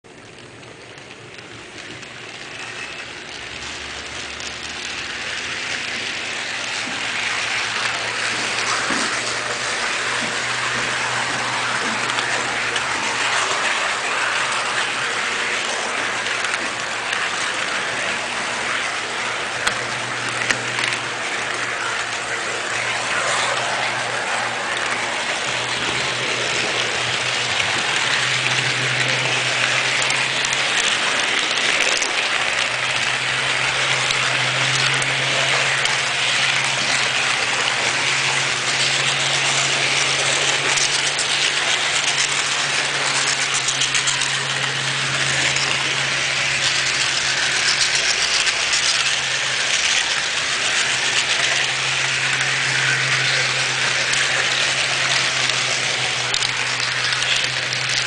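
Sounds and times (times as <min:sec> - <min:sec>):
low motor hum: 0:00.0 - 0:58.0
model train wheels rattling: 0:00.1 - 0:58.0.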